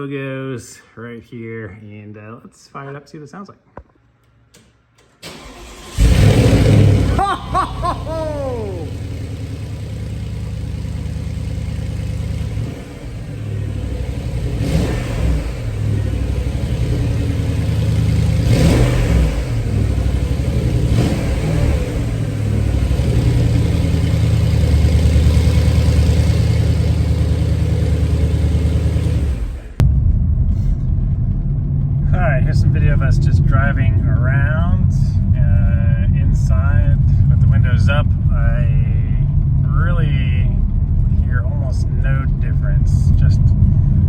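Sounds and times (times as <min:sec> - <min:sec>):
car engine revving: 0:05.3 - 0:44.0.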